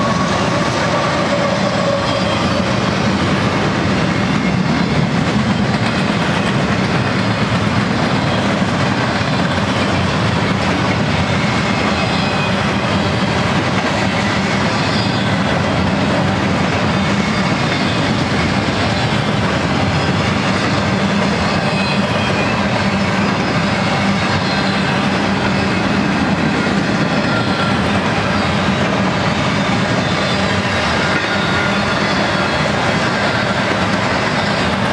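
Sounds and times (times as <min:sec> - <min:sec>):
freight train wheels on rail: 0:00.0 - 0:34.9.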